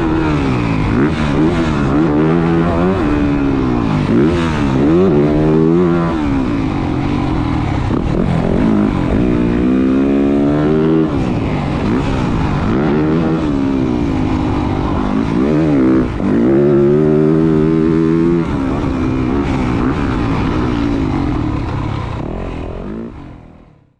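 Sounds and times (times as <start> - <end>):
motocross bike engine revving: 0.0 - 23.9.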